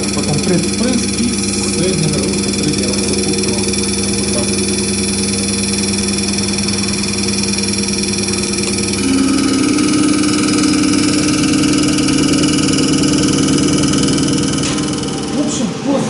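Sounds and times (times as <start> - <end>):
loud high hum: 0.0 - 16.0
test bench mechanical hum: 0.0 - 16.0.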